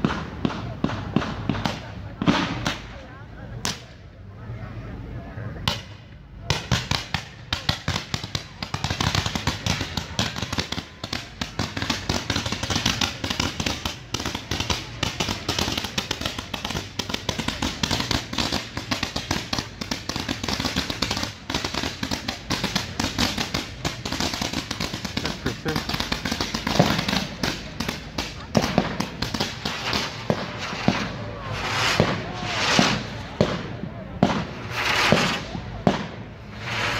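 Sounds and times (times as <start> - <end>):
fireworks popping and crackling: 0.0 - 4.0, 5.6 - 36.9.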